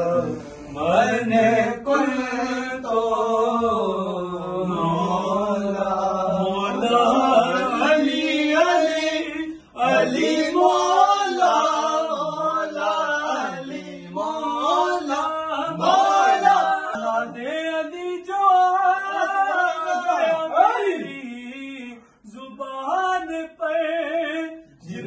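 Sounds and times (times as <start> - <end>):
man chanting devotional song: 0.0 - 25.0.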